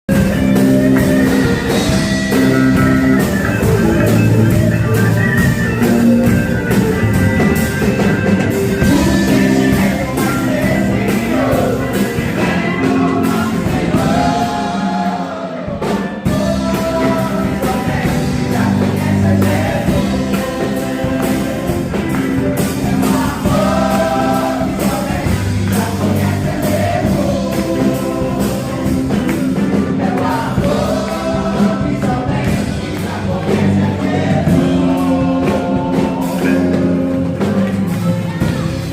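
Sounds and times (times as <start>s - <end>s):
backing band with bass line: 0.0s - 38.9s
voices singing together: 0.1s - 38.9s.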